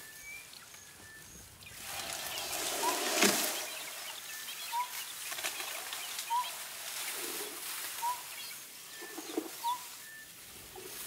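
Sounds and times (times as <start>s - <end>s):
faint bird chirping: 0.0s - 11.0s
elephant rustling and snapping brush: 1.8s - 11.0s.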